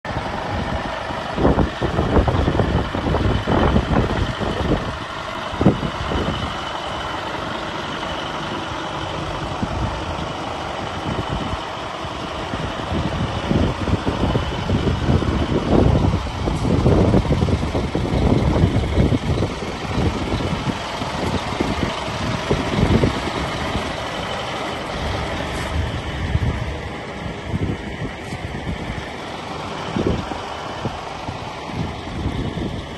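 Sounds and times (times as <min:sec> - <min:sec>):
truck diesel engine idling: 0:00.0 - 0:32.9
wind gusts thumping microphone: 0:00.1 - 0:07.0, 0:08.5 - 0:32.9.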